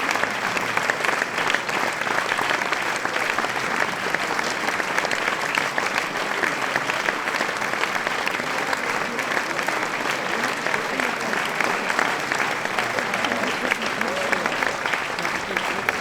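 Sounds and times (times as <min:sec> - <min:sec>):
large crowd applauding: 0:00.0 - 0:16.0.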